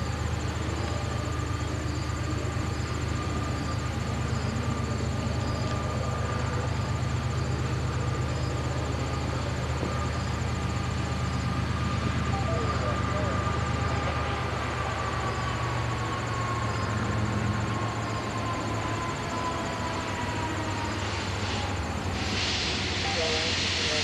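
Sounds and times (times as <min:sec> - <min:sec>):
diesel locomotives rumbling: 0:00.0 - 0:24.0
insects chirring: 0:00.0 - 0:24.0.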